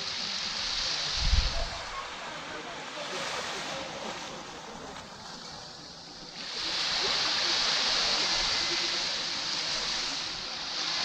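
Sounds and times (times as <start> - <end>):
sea waves washing on beach: 0.0 - 11.0.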